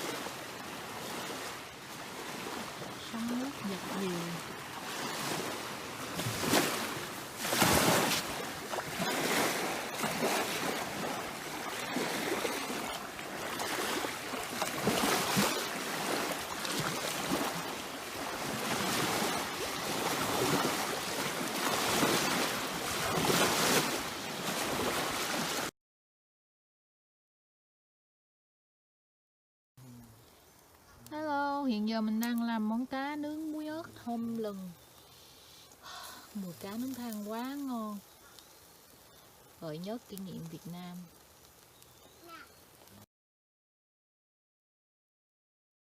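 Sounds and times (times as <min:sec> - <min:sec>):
small waves lapping: 0:00.0 - 0:25.7, 0:29.9 - 0:43.0.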